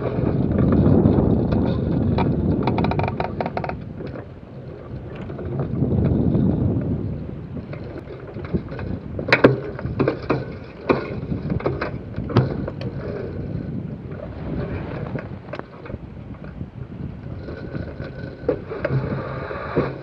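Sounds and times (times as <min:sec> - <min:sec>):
mast and rigging rattling: 0:00.0 - 0:20.0
wind rushing over microphone: 0:00.0 - 0:20.0.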